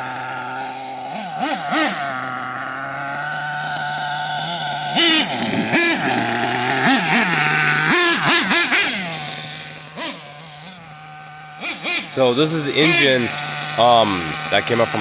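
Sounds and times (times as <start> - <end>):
nitro engine idling and revving: 0.0 - 15.0
slight engine rattle: 0.0 - 15.0.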